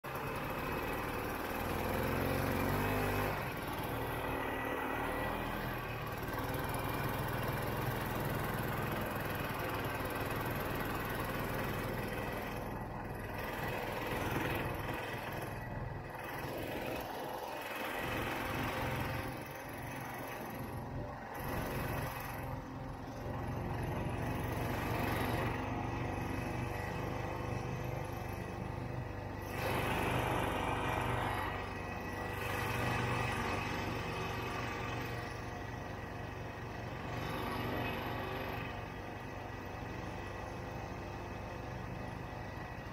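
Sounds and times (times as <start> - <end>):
snowmobile engine revving: 0.3 - 36.0.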